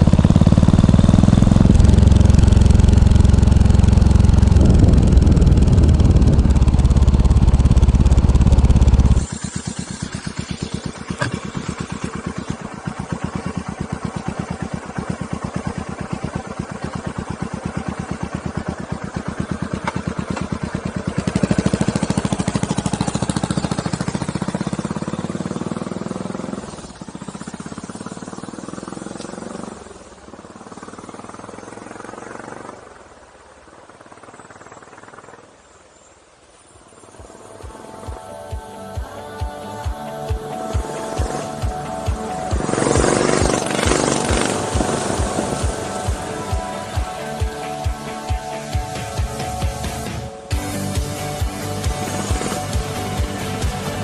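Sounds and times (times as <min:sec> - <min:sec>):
single-cylinder motorcycle engine running: 0:00.0 - 0:36.1, 0:36.9 - 0:54.0.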